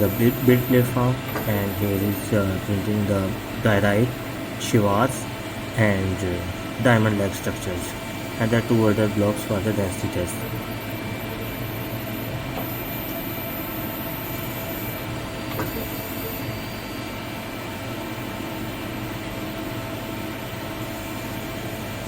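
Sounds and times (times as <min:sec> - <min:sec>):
machine hum with tones: 0:00.0 - 0:22.0.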